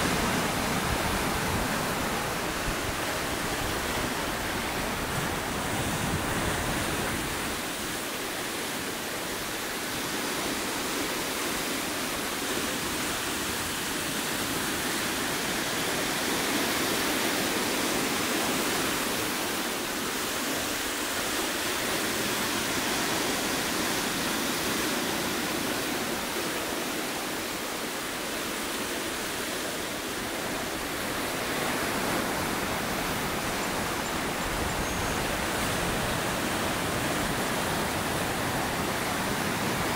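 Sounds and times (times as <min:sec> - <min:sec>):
ocean surf on rocks: 0:00.0 - 0:39.9.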